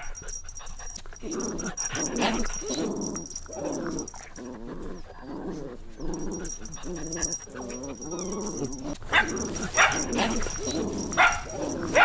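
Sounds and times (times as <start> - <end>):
puppies growling and whimpering: 0.0 - 12.0.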